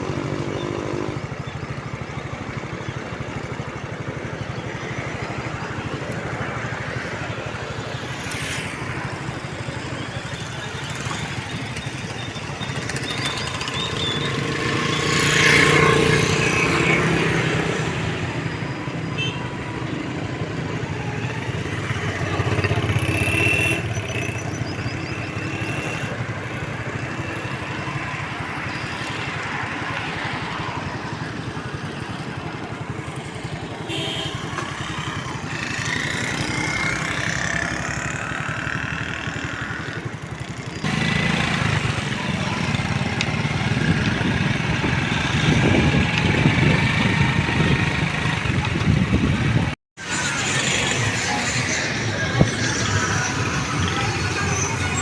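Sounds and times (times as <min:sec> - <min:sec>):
small vehicle engine running: 0:00.0 - 0:55.0
traffic noise: 0:00.0 - 0:55.0.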